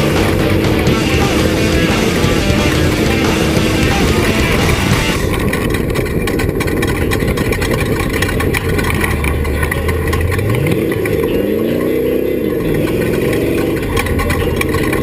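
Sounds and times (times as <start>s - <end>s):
off-road vehicle engine running: 0.0s - 15.0s
rattling: 0.0s - 15.0s.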